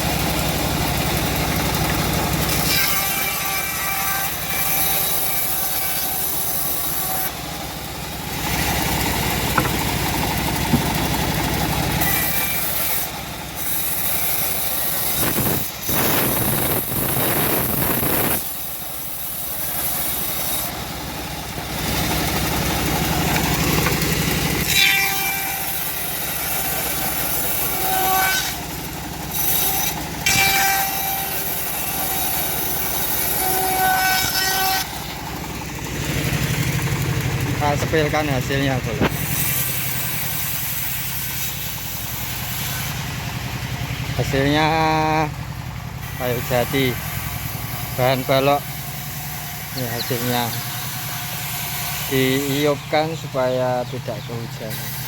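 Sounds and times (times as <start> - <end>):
bandsaw cutting log: 0.0 - 55.0.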